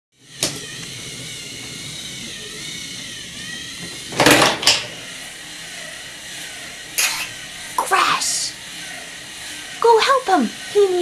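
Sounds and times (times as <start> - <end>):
toy train motor whining: 0.2 - 11.0.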